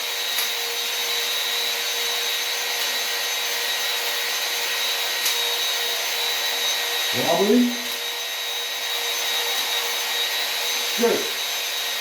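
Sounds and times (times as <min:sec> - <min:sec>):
electric drill honing metal: 0:00.0 - 0:12.0.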